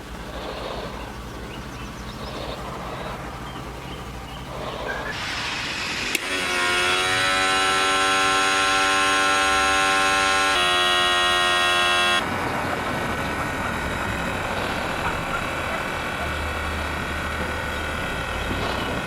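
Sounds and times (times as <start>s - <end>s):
machine motor humming: 0.0s - 19.0s.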